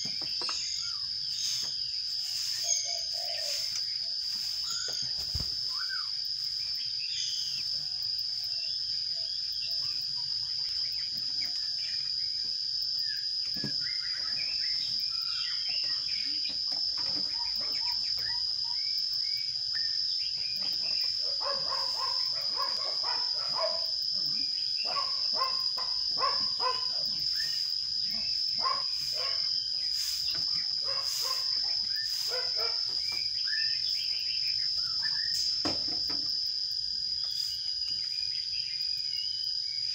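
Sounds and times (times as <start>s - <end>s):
high-pitched insect trill: 0.0s - 39.9s
sparrows chirping: 0.0s - 39.9s.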